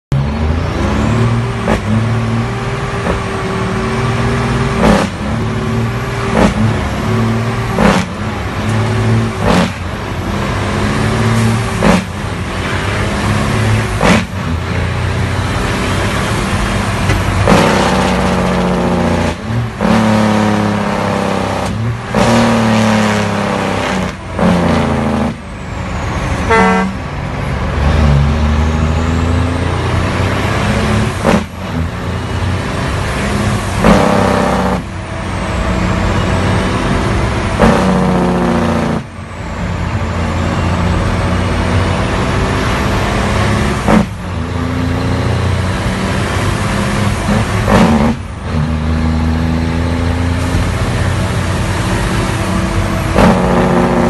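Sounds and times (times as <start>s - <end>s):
diesel truck engine running: 0.1s - 54.0s.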